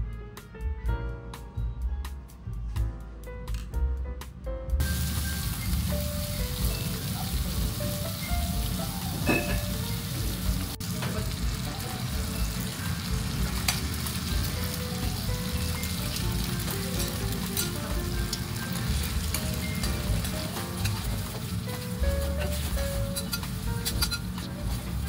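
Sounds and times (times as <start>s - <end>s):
light background music: 0.0s - 25.0s
food sizzling on a griddle: 4.8s - 25.0s.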